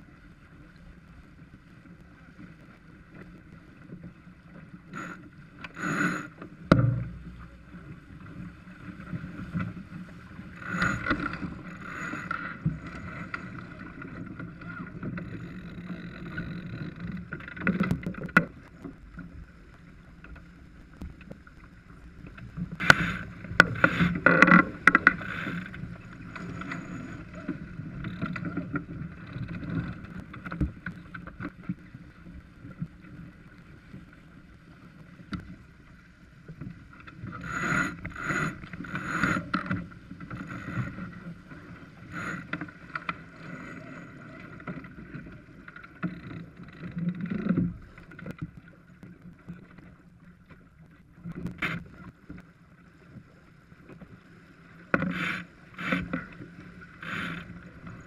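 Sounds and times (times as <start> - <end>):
water rushing along hull: 0.0 - 58.0.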